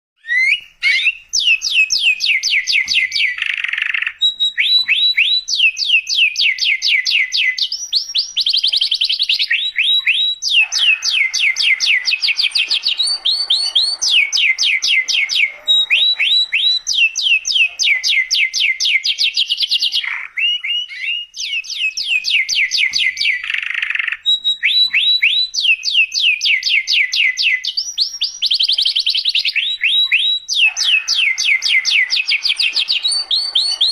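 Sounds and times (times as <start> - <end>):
canary singing: 0.2 - 33.9.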